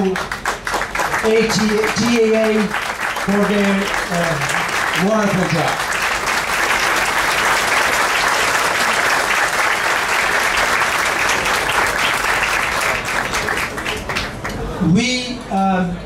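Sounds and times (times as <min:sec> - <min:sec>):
audience applauding: 0:00.0 - 0:14.7.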